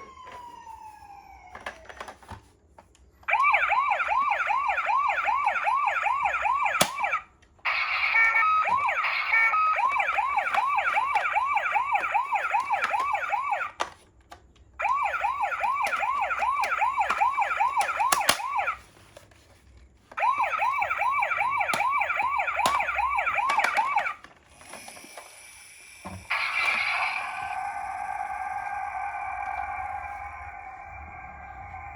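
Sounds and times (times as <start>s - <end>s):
toy electronic siren whooping: 0.0s - 2.3s, 3.3s - 13.8s, 14.8s - 18.9s, 20.2s - 31.9s.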